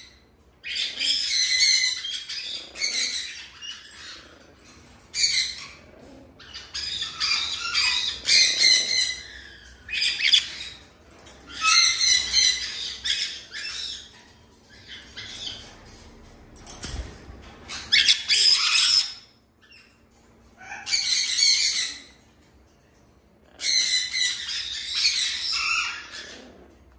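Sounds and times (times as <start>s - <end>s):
parrots squawking: 0.0s - 16.0s, 16.8s - 22.4s, 23.4s - 26.9s.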